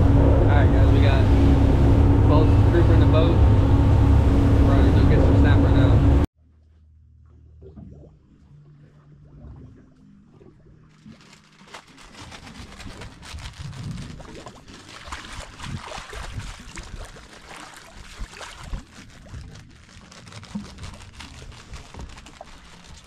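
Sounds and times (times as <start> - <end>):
water lapping against boat: 0.0 - 23.0.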